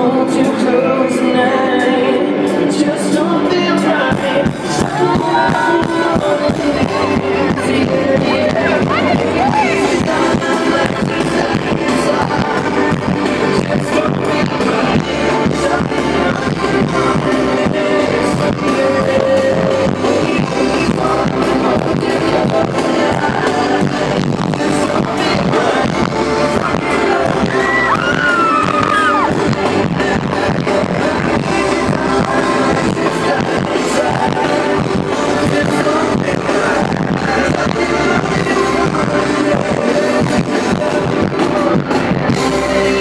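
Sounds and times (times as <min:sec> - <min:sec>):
loud amplified music with beat: 0:00.0 - 0:43.0
person singing: 0:00.0 - 0:43.0.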